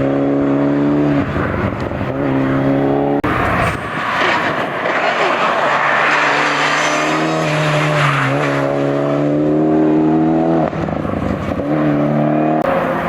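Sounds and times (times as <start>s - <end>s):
race car engine pulling hard: 0.0s - 13.0s.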